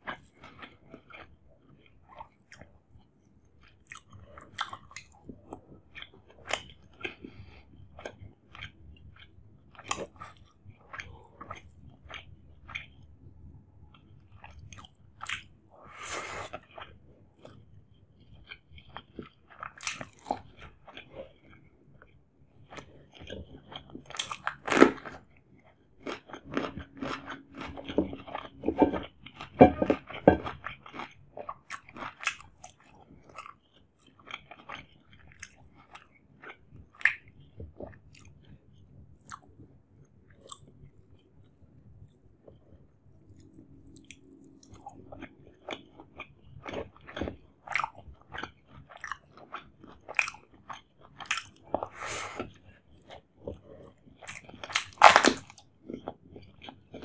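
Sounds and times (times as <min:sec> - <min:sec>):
close chewing and mouth smacks: 0:00.0 - 0:57.0.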